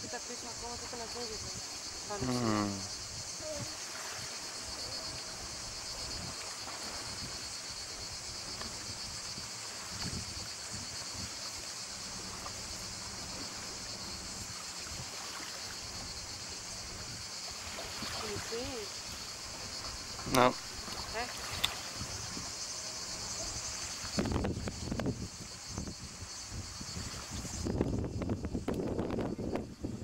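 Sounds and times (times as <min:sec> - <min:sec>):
insect chorus buzzing: 0:00.0 - 0:30.0
wind on microphone: 0:00.0 - 0:30.0.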